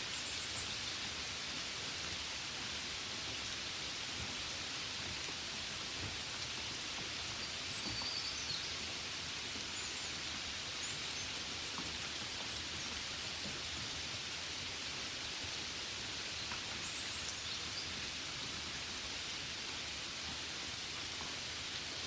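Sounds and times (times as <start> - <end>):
rain on a window: 0.0 - 22.0.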